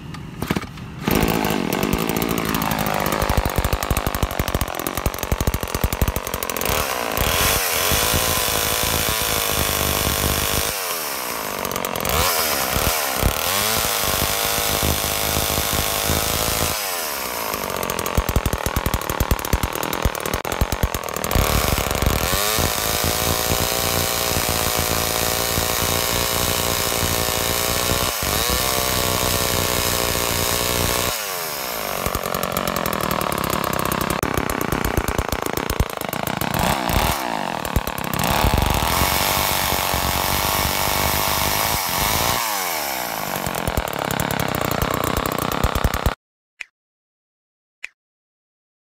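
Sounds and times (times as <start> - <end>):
chainsaw engine revving: 0.4 - 46.2.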